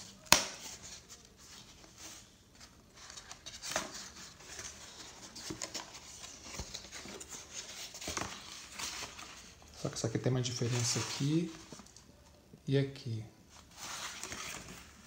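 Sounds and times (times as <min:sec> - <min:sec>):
cardboard rustling and scraping: 0:00.0 - 0:11.9, 0:13.5 - 0:15.0.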